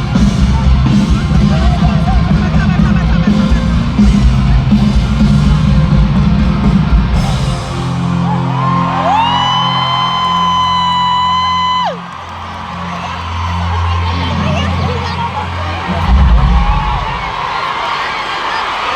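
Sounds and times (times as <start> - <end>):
live rock band playing: 0.0 - 17.6
drums: 0.0 - 18.9.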